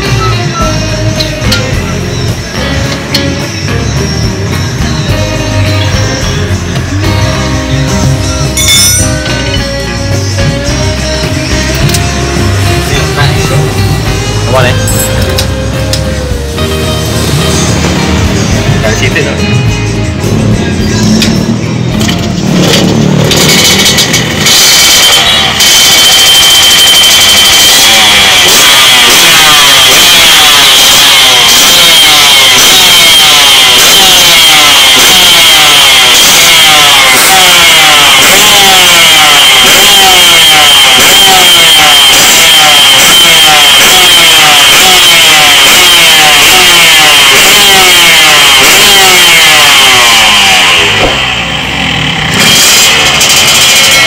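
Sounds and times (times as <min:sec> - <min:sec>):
steady high-pitched tone: 0:00.0 - 0:54.0.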